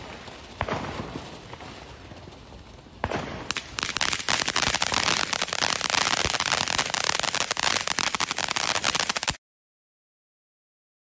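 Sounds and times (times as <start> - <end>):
firework hissing and crackling: 0.0 - 9.4.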